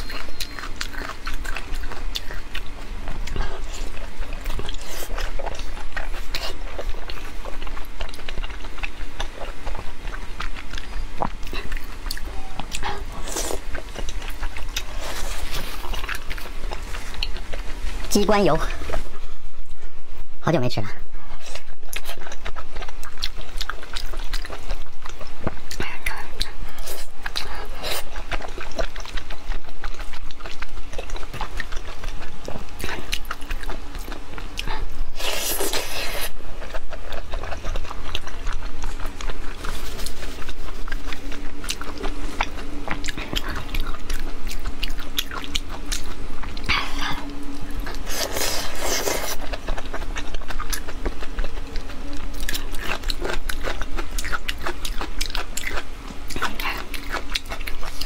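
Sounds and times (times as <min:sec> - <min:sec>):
wet chewing and lip smacking: 0:00.0 - 0:19.0, 0:21.4 - 0:58.0.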